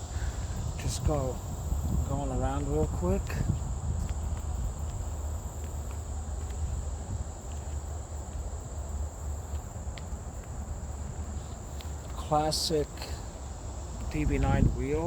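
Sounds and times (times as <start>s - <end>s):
continuous low rumble: 0.0s - 15.0s
insects trilling: 0.0s - 15.0s.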